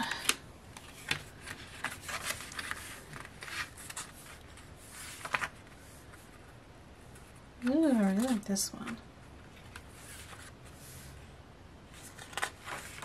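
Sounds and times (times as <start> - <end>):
paper rustling: 0.8 - 11.2, 11.9 - 13.0.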